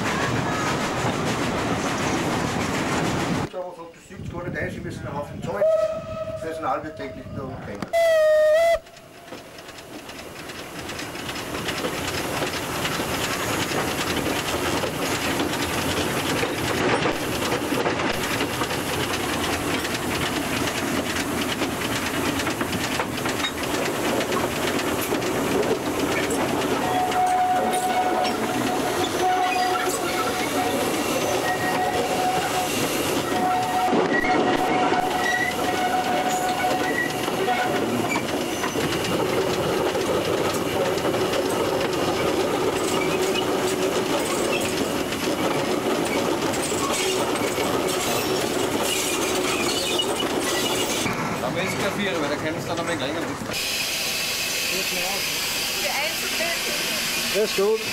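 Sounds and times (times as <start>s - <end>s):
steam hiss and clatter: 0.0s - 3.6s, 9.0s - 57.9s
steam locomotive running: 0.0s - 57.9s.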